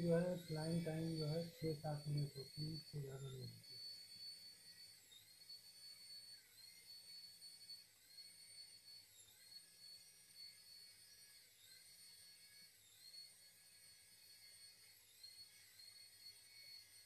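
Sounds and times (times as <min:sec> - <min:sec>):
toy helicopter rotor whining: 0:00.0 - 0:17.0.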